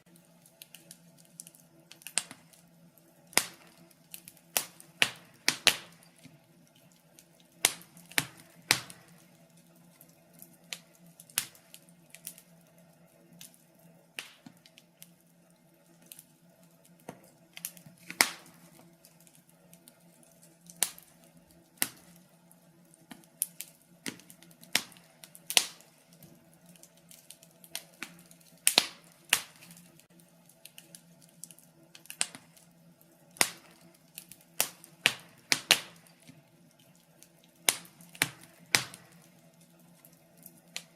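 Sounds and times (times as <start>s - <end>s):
fire crackling with pops: 0.0s - 40.9s.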